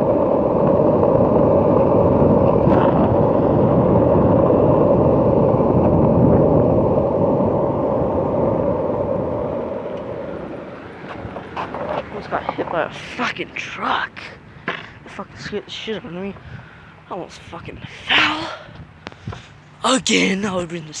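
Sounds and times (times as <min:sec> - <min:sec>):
skateboard wheels rolling on asphalt: 0:00.0 - 0:18.1.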